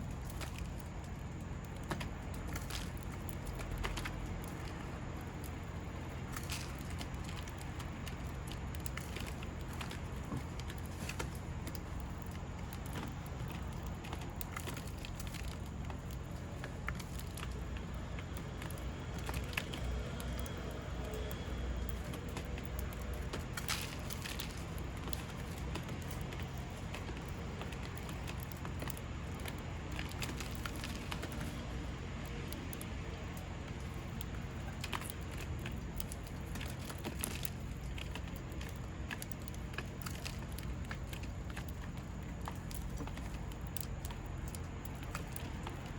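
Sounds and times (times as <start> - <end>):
low background rumble: 0.0 - 45.9
small clicks and taps: 0.1 - 45.9.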